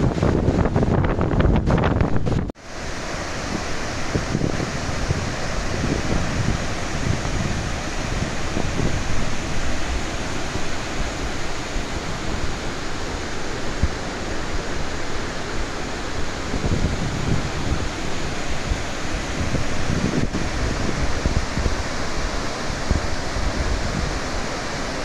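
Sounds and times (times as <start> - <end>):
wind buffeting microphone: 0.0 - 2.5, 3.3 - 25.0
waterfall rushing: 2.0 - 25.0.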